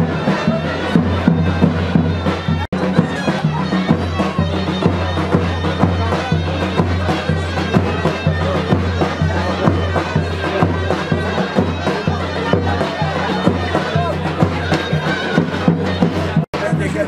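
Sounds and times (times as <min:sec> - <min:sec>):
reedy wind instrument melody: 0:00.0 - 0:17.0
steady drum beat: 0:00.0 - 0:17.0.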